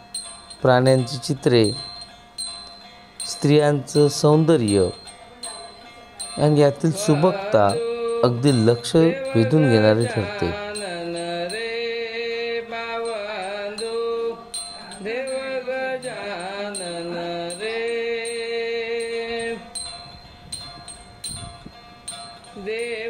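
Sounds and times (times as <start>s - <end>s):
light tapping percussion: 0.0s - 23.0s
sliding held-note melody: 0.0s - 23.0s.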